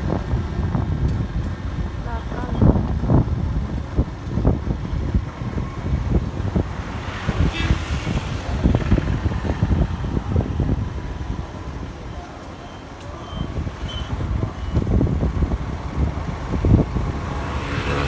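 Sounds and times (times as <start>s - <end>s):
motorcycle and road rumble: 0.0s - 18.0s
wind buffeting microphone: 0.0s - 18.0s.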